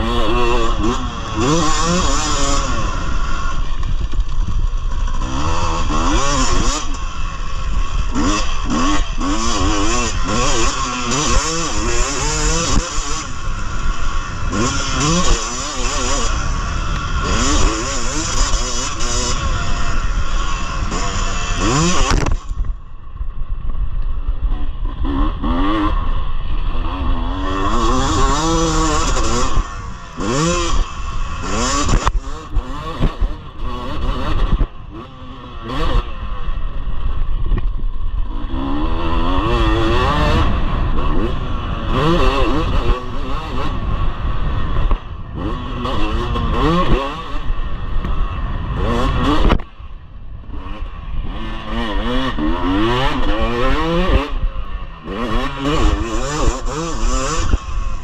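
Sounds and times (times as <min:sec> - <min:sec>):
motocross engine revving: 0:00.0 - 0:23.2, 0:24.2 - 0:58.0.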